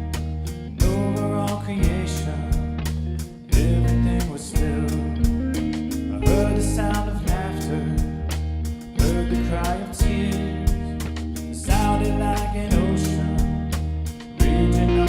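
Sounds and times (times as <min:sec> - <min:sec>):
guitar: 0:00.0 - 0:15.0
steady drum beat: 0:00.0 - 0:15.0
sustained bass notes: 0:00.0 - 0:15.0.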